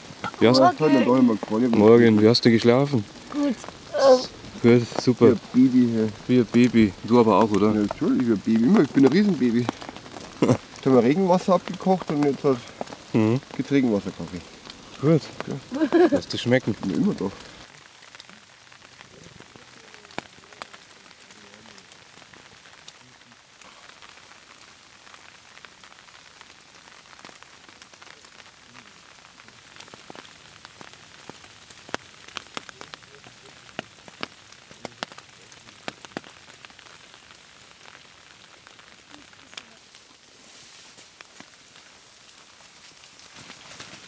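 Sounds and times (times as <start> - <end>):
raindrops ticking close by: 0.0 - 44.0
steady rain: 0.0 - 44.0.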